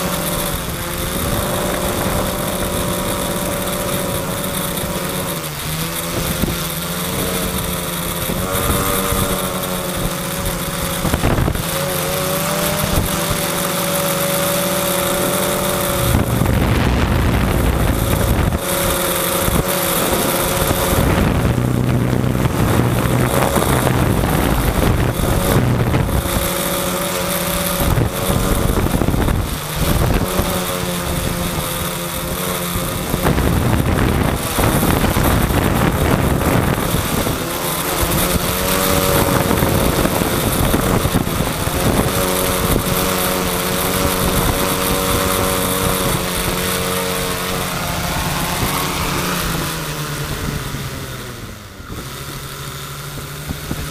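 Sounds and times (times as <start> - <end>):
quadcopter motors whirring: 0.0 - 53.9
wind buffeting microphone: 0.0 - 53.9.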